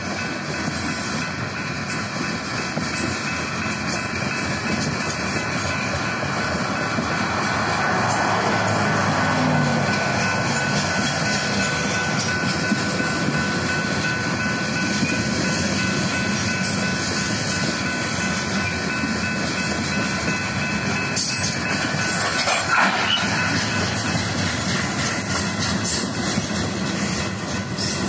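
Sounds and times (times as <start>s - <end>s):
crossing bells ringing: 0.0s - 28.0s
train wheels on rails: 0.0s - 28.0s.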